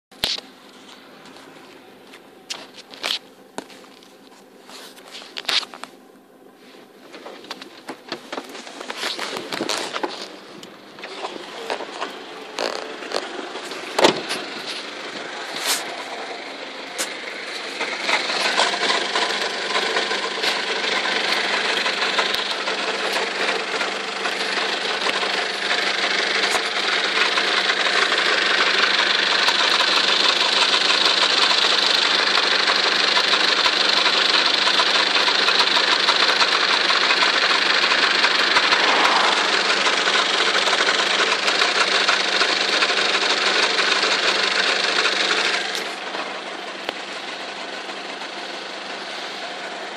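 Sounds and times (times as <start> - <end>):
diesel engine running: 0.2 - 49.9
engine rattle: 7.1 - 49.9.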